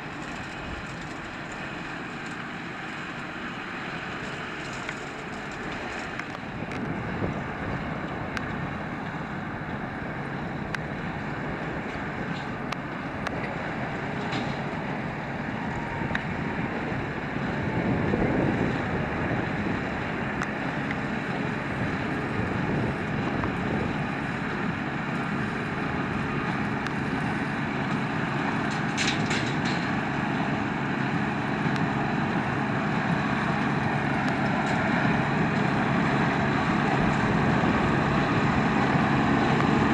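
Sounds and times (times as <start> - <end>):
tractor running hay machinery: 0.0 - 39.9.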